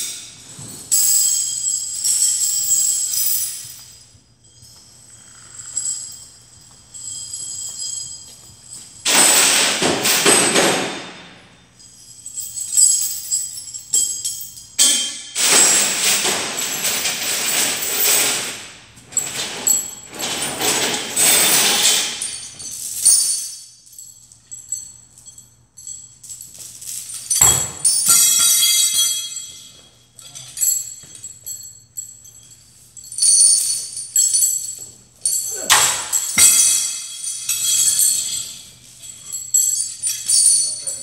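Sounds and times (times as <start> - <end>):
metal jingling and rattling: 0.0 - 41.0.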